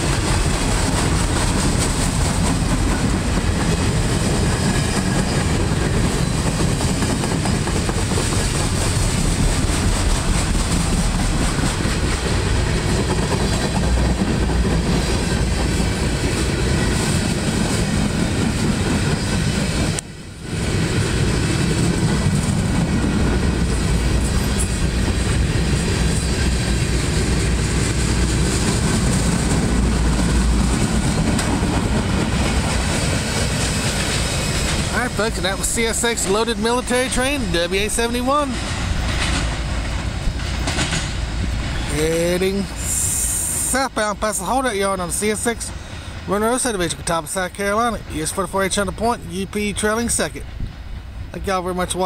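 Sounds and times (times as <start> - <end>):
train wheels rolling on rails: 0.0 - 52.0.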